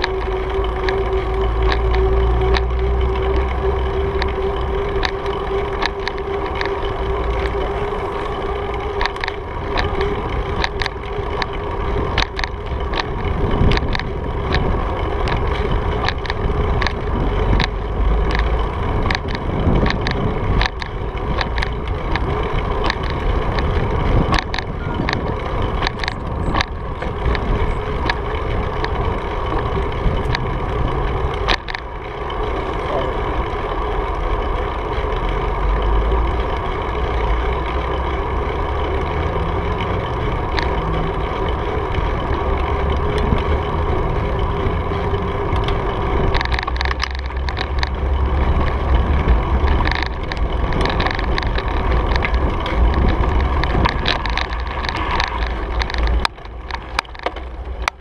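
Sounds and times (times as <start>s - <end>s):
bicycle clicks and rattles: 0.0s - 58.0s
wind rushing over camera: 0.0s - 58.0s.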